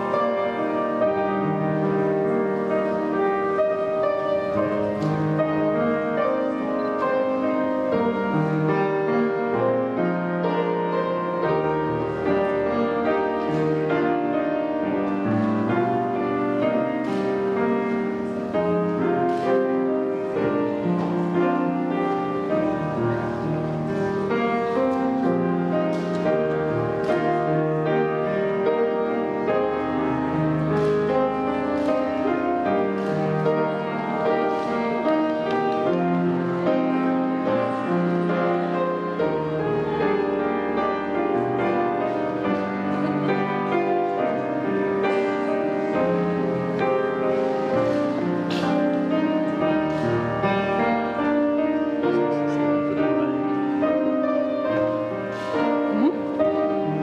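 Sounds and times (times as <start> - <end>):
instrumental piano music: 0.0 - 57.0.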